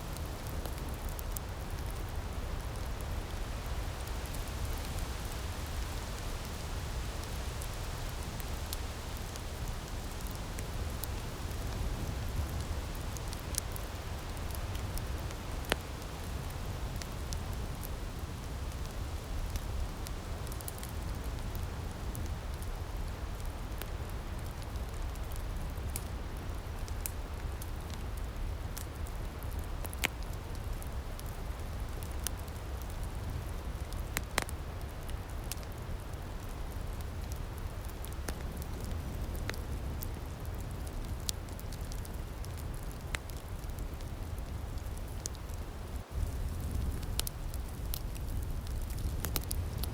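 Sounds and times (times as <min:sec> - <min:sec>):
fire popping and snapping: 0:00.0 - 0:49.9
wood fire crackling: 0:00.0 - 0:49.9.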